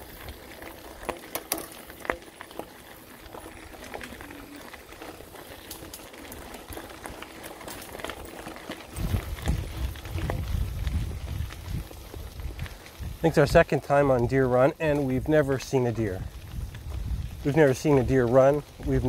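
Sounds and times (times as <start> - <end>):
bike clicks and rattles: 0.0 - 19.0
tyres crunching on gravel: 0.0 - 19.0.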